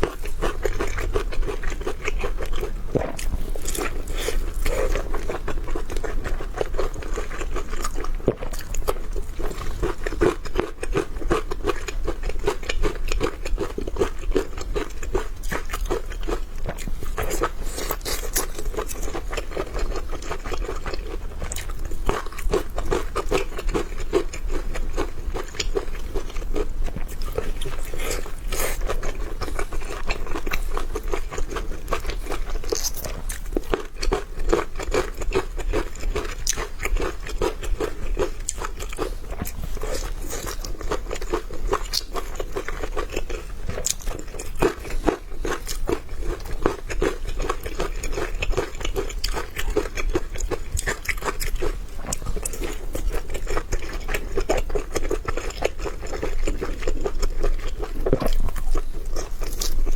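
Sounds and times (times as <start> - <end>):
chewing with wet mouth clicks: 0.0 - 59.9.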